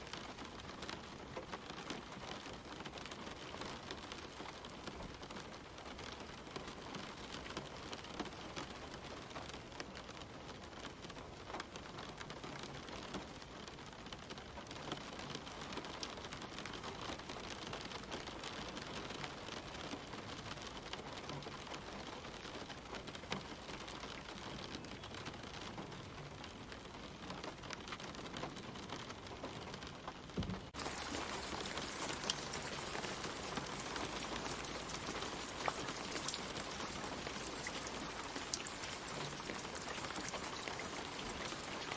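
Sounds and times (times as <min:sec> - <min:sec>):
rain pattering on leaves: 0:00.0 - 0:41.9.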